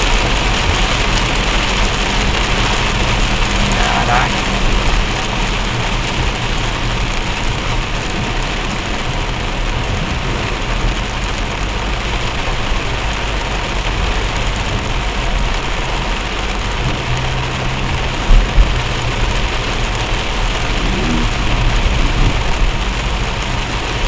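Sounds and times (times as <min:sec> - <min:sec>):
heavy rain pouring: 0:00.0 - 0:24.0
rumble of vehicles: 0:00.0 - 0:24.0.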